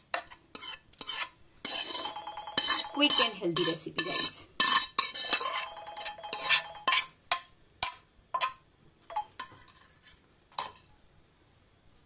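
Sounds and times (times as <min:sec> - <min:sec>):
metal spoon scraping metal pan: 0:00.1 - 0:05.7, 0:06.3 - 0:10.8.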